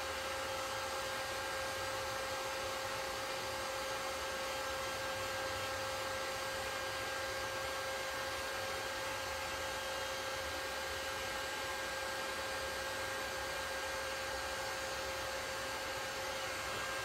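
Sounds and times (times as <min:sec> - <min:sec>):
small blower motor running: 0:00.0 - 0:17.0.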